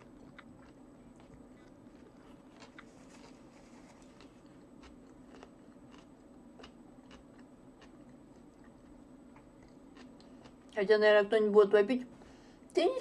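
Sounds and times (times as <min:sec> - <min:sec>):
faint chewing: 0:00.0 - 0:10.8
low steady hum: 0:00.0 - 0:13.0.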